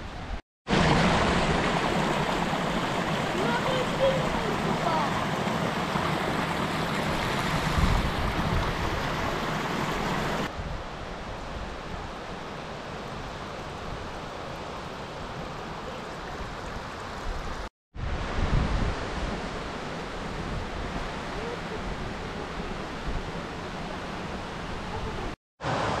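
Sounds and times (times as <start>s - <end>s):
stream rushing over rocks: 0.7s - 10.5s, 12.6s - 26.0s.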